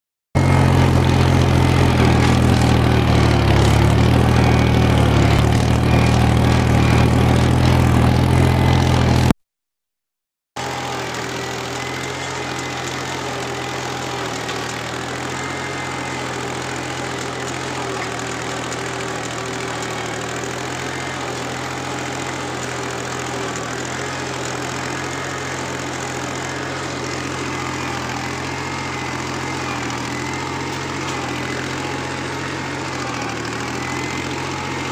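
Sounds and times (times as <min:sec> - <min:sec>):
tractor diesel engine running: 0:00.4 - 0:09.3, 0:10.6 - 0:34.9.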